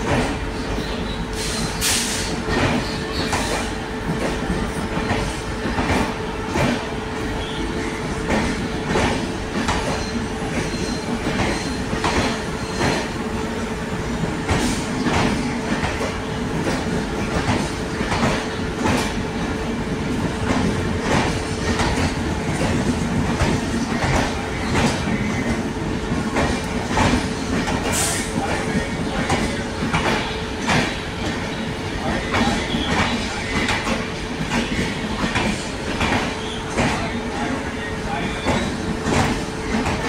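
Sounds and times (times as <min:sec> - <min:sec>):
train wheels clicking over rail joints: 0:00.0 - 0:13.4, 0:14.1 - 0:37.6, 0:38.4 - 0:40.0
train rolling rumble: 0:00.0 - 0:40.0.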